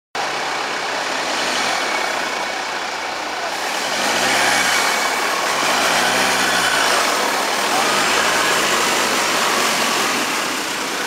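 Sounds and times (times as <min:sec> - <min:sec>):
car engine pulling under load: 0:00.2 - 0:11.0
steady rushing noise: 0:00.2 - 0:11.0.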